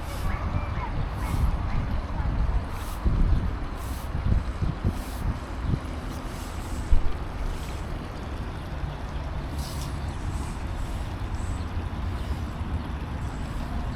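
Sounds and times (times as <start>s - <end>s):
low outdoor rumble: 0.0s - 13.9s.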